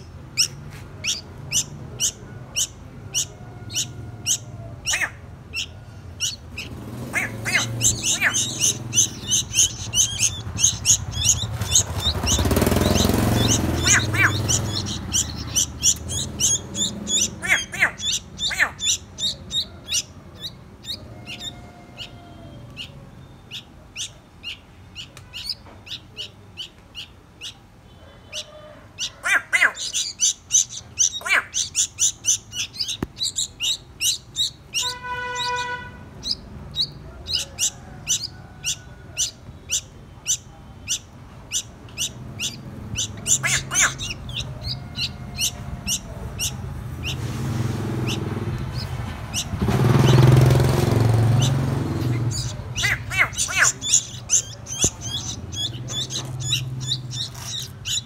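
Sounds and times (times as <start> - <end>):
fledglings chirping high: 0.0 - 58.0.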